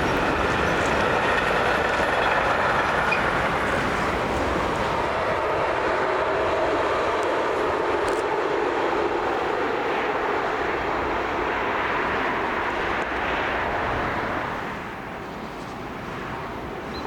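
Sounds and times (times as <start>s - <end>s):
train wheels on track: 0.0s - 14.7s.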